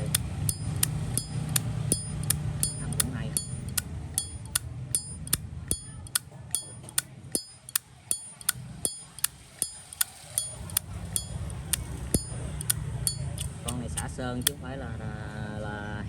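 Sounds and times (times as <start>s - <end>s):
lighter lid clicking open and shut: 0.0s - 14.6s.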